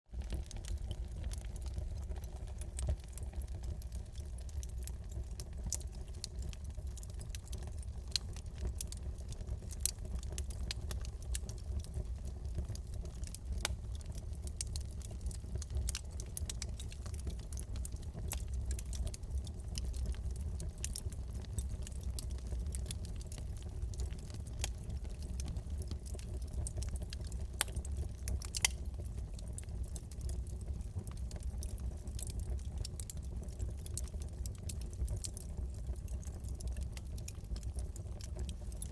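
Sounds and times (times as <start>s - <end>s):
fire crackling and popping: 0.1s - 38.9s
fireplace flames rumbling: 0.1s - 38.9s.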